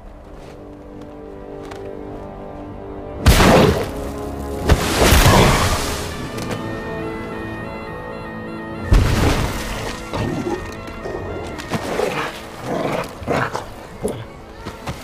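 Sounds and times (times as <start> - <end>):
film score music: 0.0 - 15.0.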